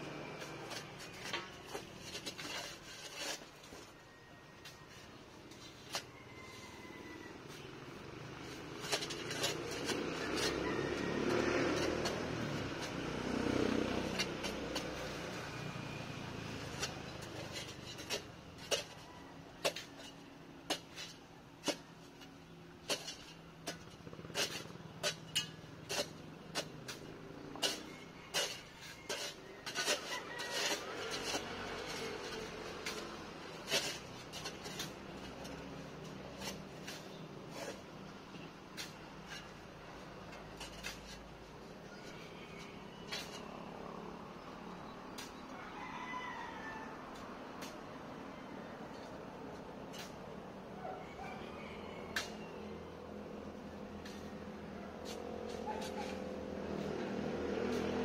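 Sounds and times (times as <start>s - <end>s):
shovel scraping sandy ground: 0.0s - 45.4s, 46.4s - 48.0s, 48.8s - 58.0s.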